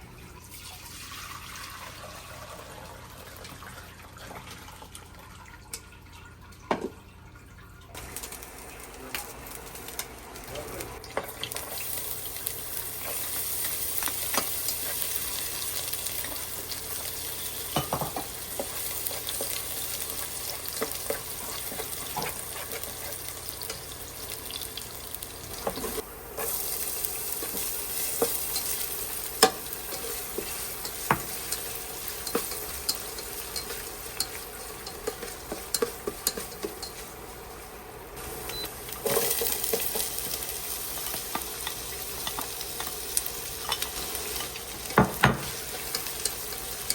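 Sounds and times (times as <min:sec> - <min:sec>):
food sizzling in a pan: 0:00.5 - 0:03.8, 0:07.9 - 0:46.9.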